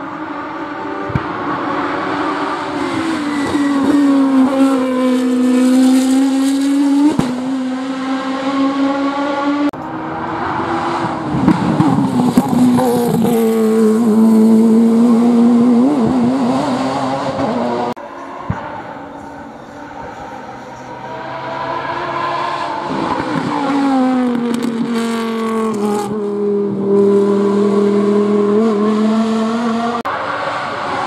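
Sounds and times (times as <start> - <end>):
racing car engines passing: 0.0 - 31.0.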